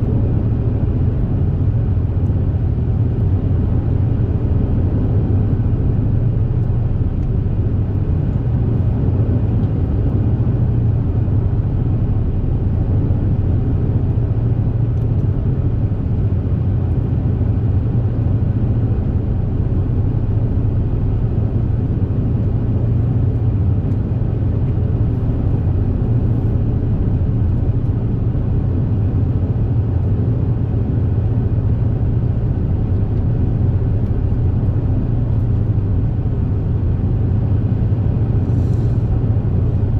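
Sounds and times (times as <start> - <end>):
ferry engine drone: 0.0 - 39.9.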